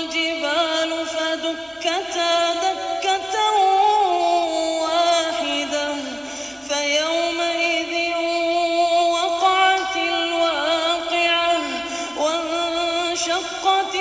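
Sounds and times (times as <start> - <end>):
person chanting recitation: 0.0 - 14.0.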